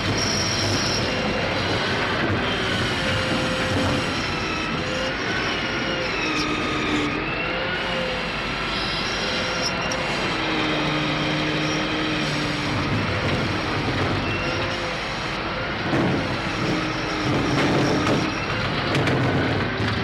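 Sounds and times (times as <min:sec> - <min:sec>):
hydraulic whining tones: 0:00.0 - 0:19.8
crane engine and hydraulics: 0:00.0 - 0:20.0.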